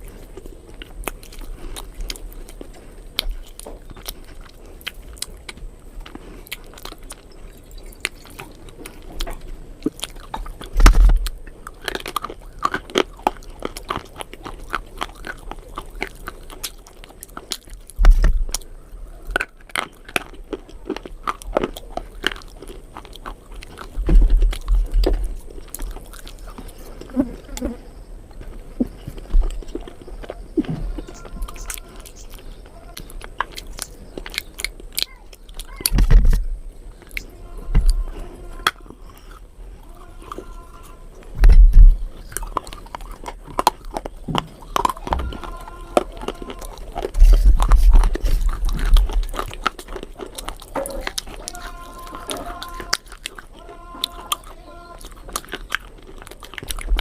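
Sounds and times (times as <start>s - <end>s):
person chewing something crunchy: 0.0s - 57.0s.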